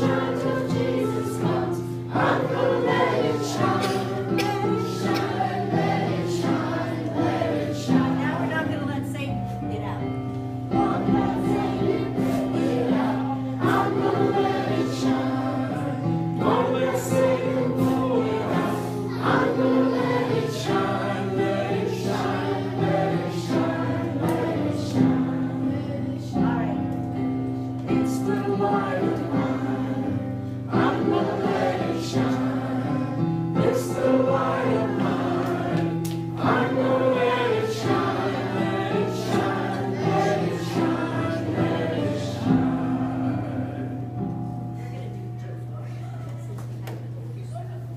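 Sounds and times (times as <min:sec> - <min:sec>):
choir singing: 0:00.0 - 0:08.9, 0:10.7 - 0:44.6
held accompaniment chords: 0:00.0 - 0:47.9.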